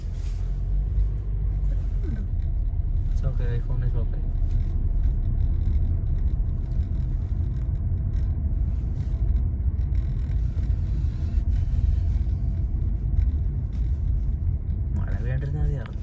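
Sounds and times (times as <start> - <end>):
car driving: 0.0 - 16.0.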